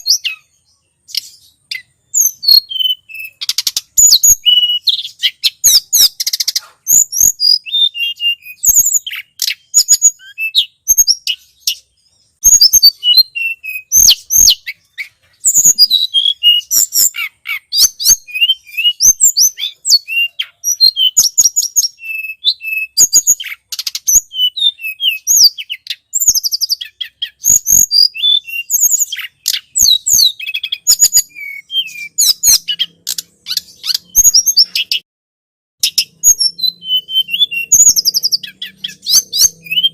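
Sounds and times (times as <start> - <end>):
bird chirping song: 0.0 - 35.1, 35.8 - 39.9.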